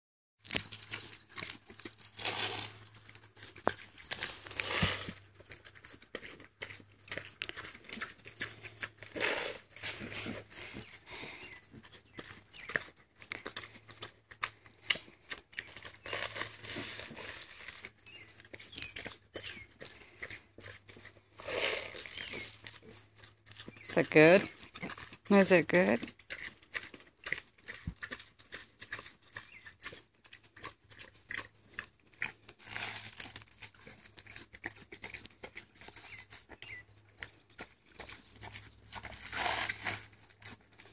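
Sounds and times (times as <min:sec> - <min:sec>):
pig chewing lettuce: 0:00.4 - 0:40.9.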